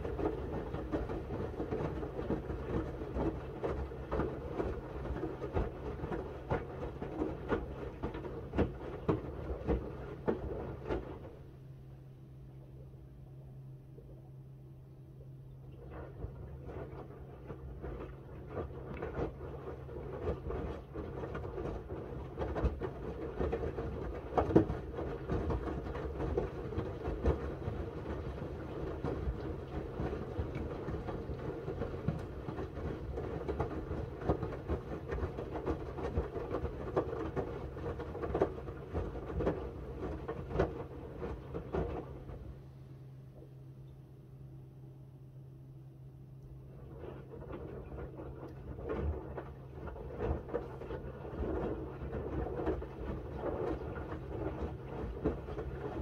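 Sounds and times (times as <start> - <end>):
laundry tumbling and sloshing: 0.0 - 11.4, 15.7 - 42.5, 46.6 - 56.0
washing machine motor hum: 0.0 - 56.0.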